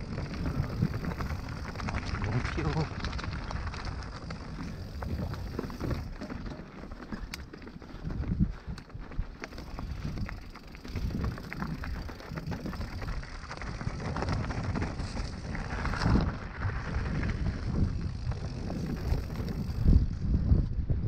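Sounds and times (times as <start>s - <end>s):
tyres rolling over uneven ground: 0.0s - 19.8s
bike rattles and knocks: 0.0s - 20.6s
wind buffeting microphone: 0.0s - 21.0s.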